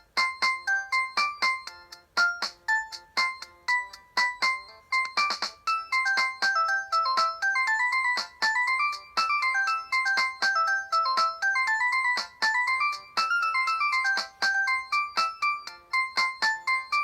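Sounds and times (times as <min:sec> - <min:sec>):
electronic ringtone melody: 0:00.0 - 0:17.0.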